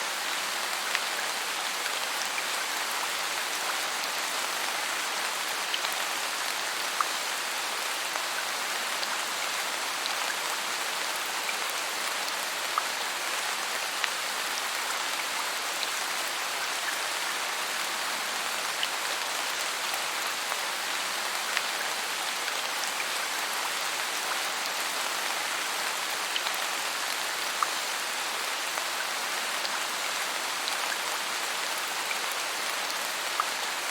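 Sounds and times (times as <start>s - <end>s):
rain on foliage: 0.0s - 33.9s.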